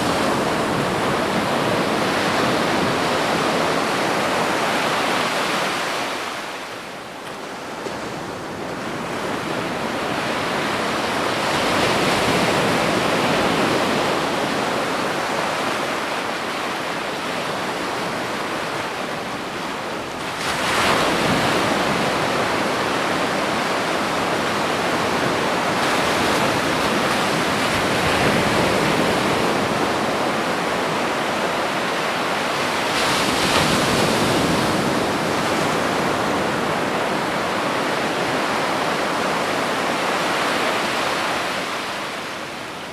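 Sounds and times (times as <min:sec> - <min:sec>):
ocean waves breaking on beach: 0:00.0 - 0:42.9.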